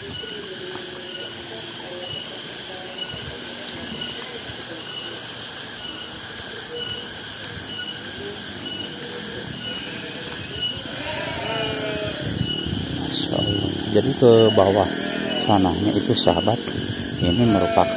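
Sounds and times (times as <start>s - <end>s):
cicadas buzzing: 0.0s - 17.9s.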